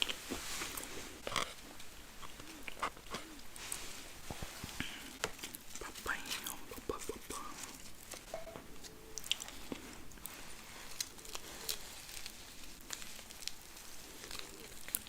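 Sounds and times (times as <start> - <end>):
crisp food crackles: 0.0 - 15.0
wet chewing mouth sounds: 0.0 - 15.0.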